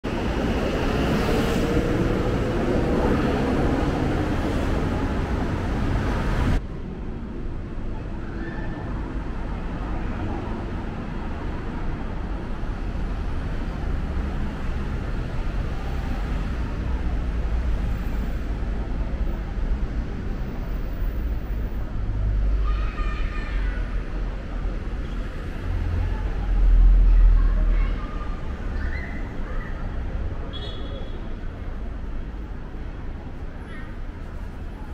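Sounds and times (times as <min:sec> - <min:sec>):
low rumble of road traffic: 0:00.0 - 0:34.9
passers-by's voices: 0:00.0 - 0:34.9.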